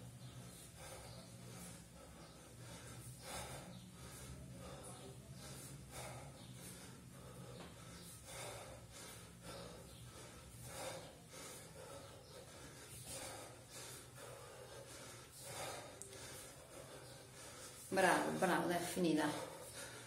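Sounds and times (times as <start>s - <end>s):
man breathing hard: 0.0s - 17.9s, 19.4s - 20.0s.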